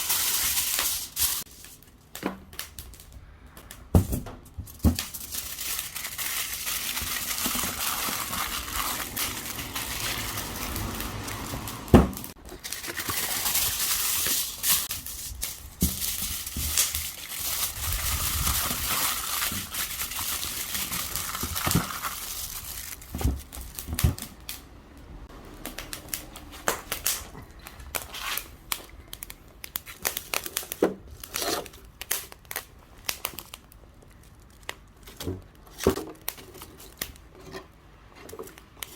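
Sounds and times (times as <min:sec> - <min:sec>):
wrapping material crinkling: 0:00.0 - 0:03.2, 0:04.5 - 0:24.6, 0:25.5 - 0:37.3.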